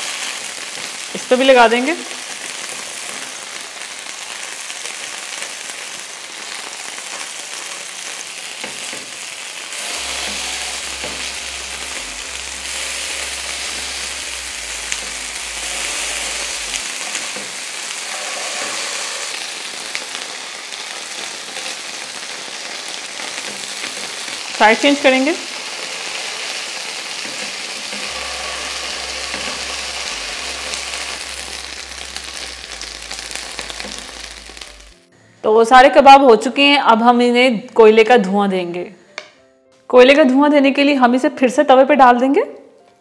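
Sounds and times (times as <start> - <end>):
kebabs sizzling in oil: 0.0 - 35.1.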